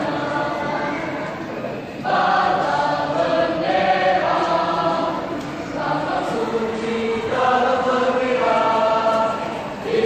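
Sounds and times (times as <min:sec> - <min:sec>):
choir breath: 0:00.0 - 0:10.0
youth choir singing held notes: 0:00.0 - 0:10.0.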